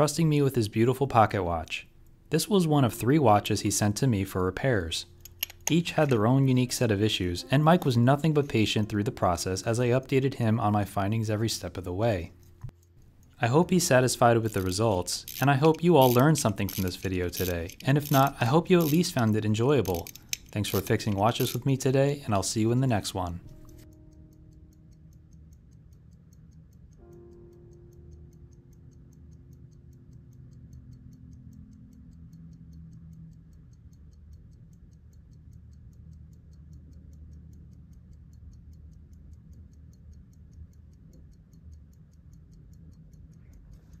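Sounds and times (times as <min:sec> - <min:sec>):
pocket watch ticking: 0:00.0 - 0:44.0
soft held music chords: 0:00.0 - 0:44.0.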